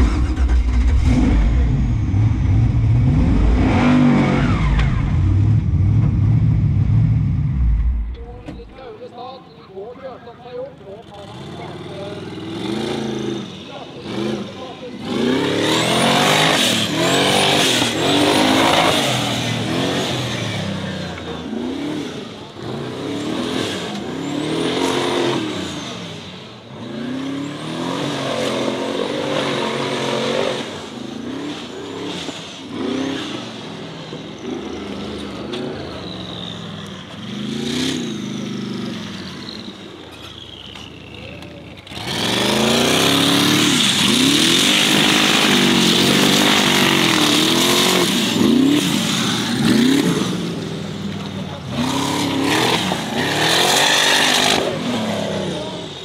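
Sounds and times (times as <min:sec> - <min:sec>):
buggy engine revving hard: 0:00.0 - 0:08.0, 0:11.1 - 0:56.0.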